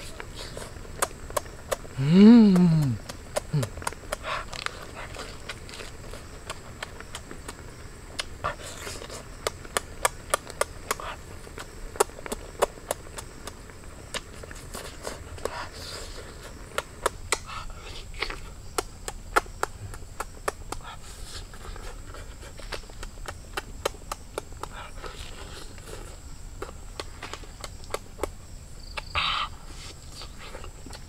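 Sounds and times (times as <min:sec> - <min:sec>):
wet chewing and lip smacks: 0:00.1 - 0:31.0.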